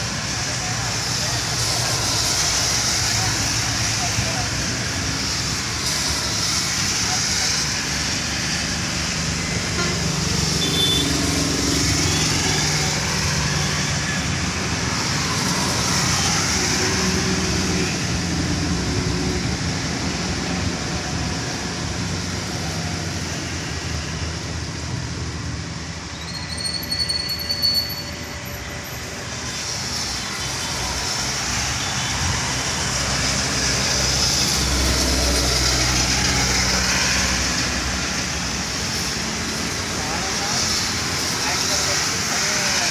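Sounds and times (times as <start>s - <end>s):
truck engine rumble: 0.0s - 42.9s
tyres hissing on wet road: 0.0s - 42.9s.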